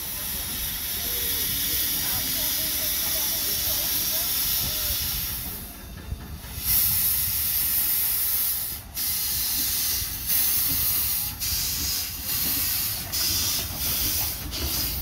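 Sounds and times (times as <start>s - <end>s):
low rumble of locomotive: 0.0s - 15.0s
steam hissing: 0.0s - 15.0s.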